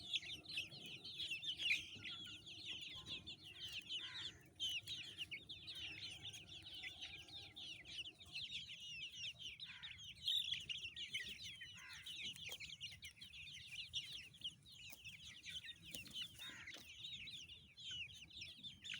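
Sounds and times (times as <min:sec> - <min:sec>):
flock of chickens calling: 0:00.0 - 0:18.9.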